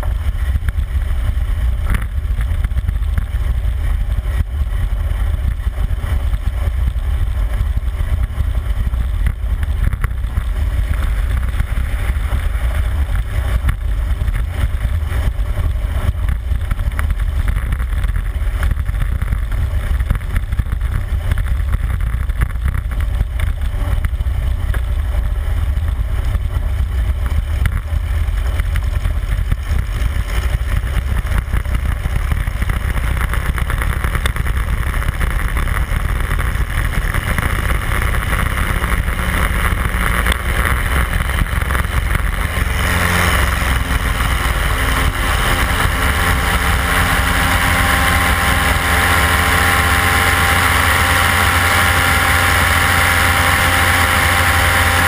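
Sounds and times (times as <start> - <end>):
aircraft engine and propeller: 0.0 - 55.0
wind rumble on microphone: 0.0 - 55.0.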